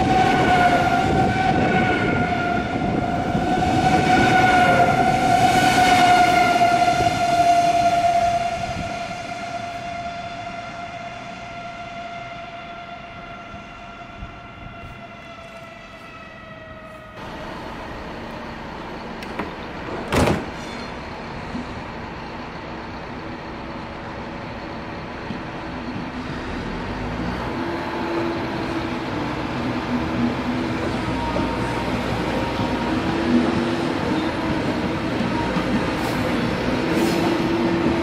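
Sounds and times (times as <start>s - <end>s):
distant train whine: 0.0s - 38.0s
train wheels rolling on rails: 0.0s - 38.0s.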